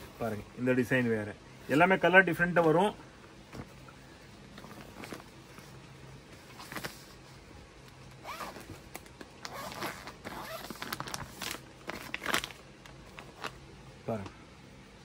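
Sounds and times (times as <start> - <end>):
fabric rustling and handling: 0.0 - 13.7.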